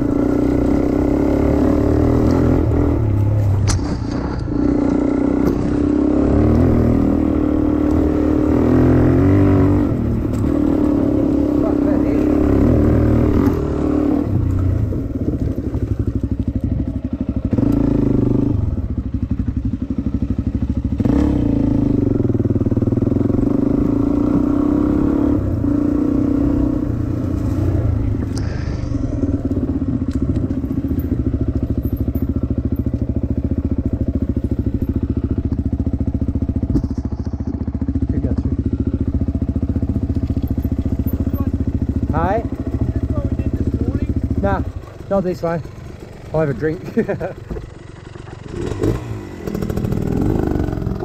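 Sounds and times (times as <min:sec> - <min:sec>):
dirt bike engine revving: 0:00.0 - 0:16.2, 0:16.8 - 0:51.0.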